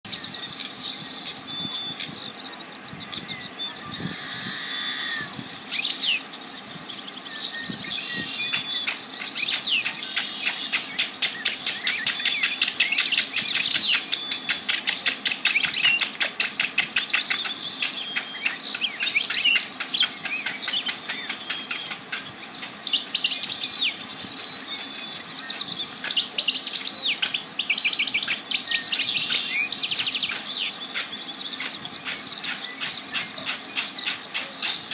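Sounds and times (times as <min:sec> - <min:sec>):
birds chirping and singing: 0:00.0 - 0:34.9.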